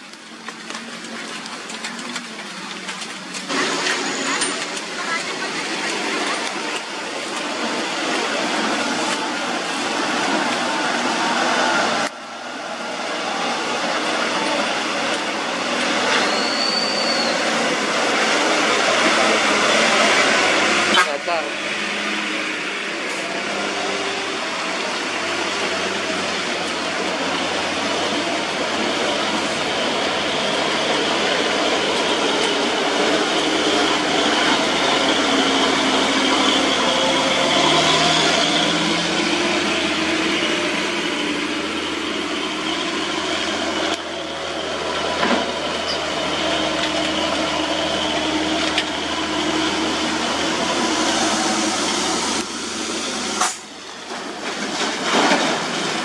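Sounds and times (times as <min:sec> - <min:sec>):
tyres hissing on wet asphalt: 0:00.0 - 0:56.0
truck engine running under load: 0:00.1 - 0:56.0.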